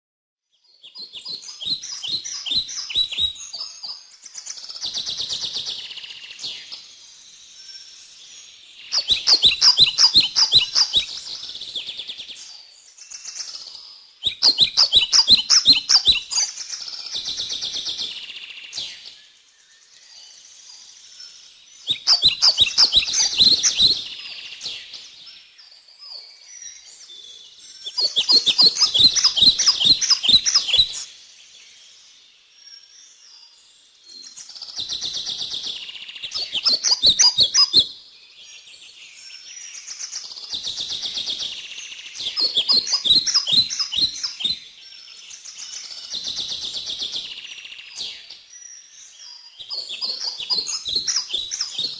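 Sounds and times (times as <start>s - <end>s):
songbirds chirping: 0.4s - 51.9s.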